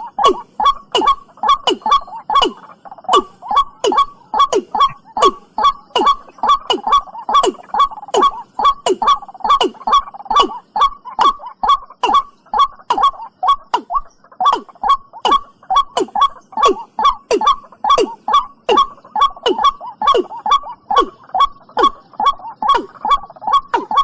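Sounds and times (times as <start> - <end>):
bird calling with hollow notes: 0.0 - 24.0.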